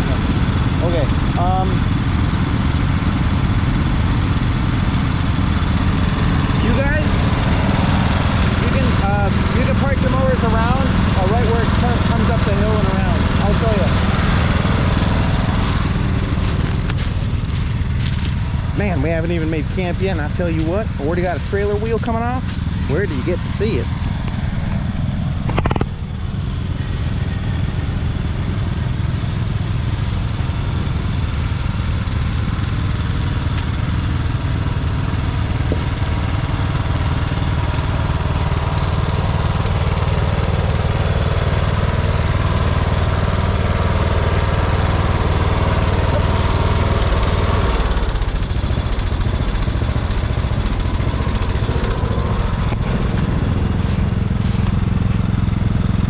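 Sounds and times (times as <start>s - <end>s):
engine running at low speed: 0.0s - 56.0s.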